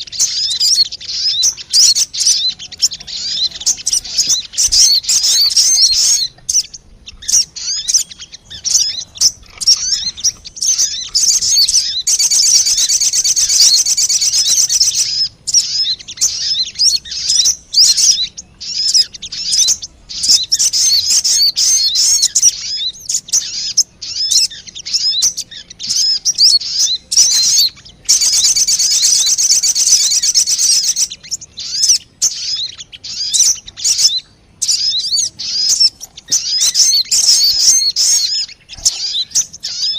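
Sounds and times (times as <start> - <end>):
bird lure chattering chirps: 0.0 - 39.9
fast bird trills: 0.0 - 39.9.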